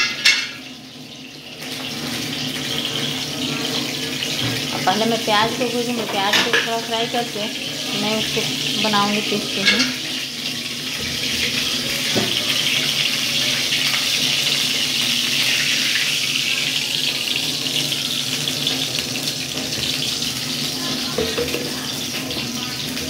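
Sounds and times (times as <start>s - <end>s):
oil hissing in a pan: 0.0s - 23.0s.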